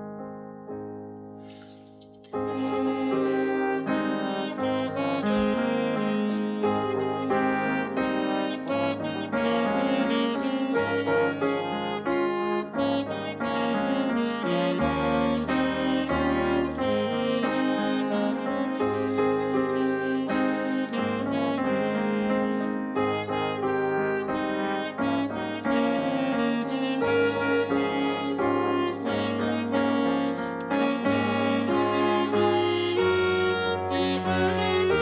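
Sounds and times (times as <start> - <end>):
instrumental ensemble music: 1.3 - 35.0.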